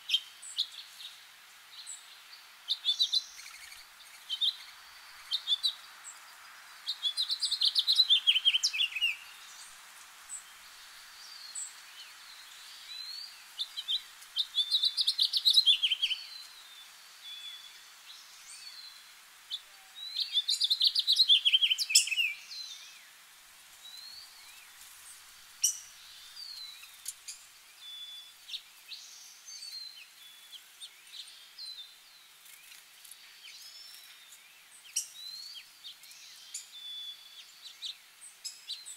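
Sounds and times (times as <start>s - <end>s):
quiet scattered bird chirps: 0.0s - 38.9s
songbird singing falling phrases: 0.0s - 38.9s.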